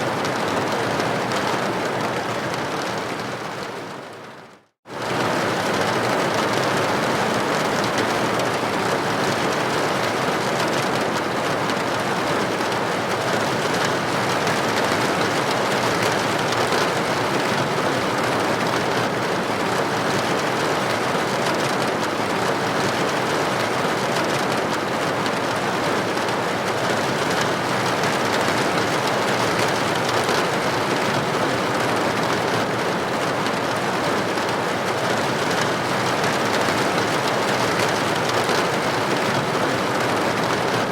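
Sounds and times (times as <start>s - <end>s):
rain striking a window: 0.0s - 40.9s.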